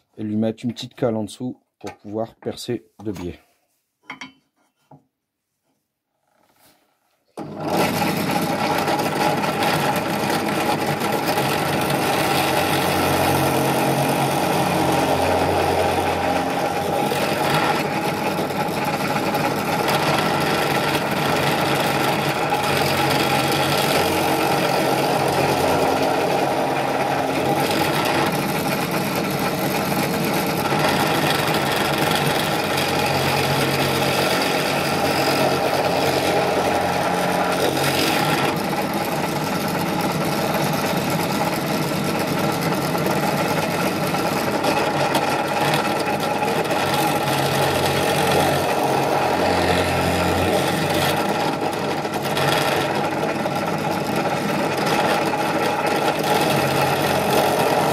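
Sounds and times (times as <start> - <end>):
drill press boring into wood: 7.4 - 57.9.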